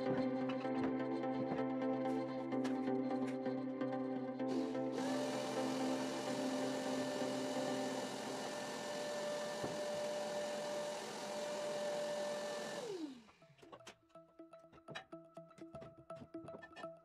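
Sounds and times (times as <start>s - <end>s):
vacuum cleaner whining: 0.0s - 13.8s.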